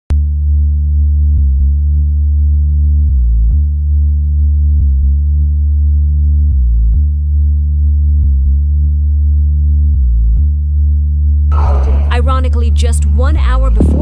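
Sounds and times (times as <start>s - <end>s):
deep synthesizer drone: 0.1s - 14.0s.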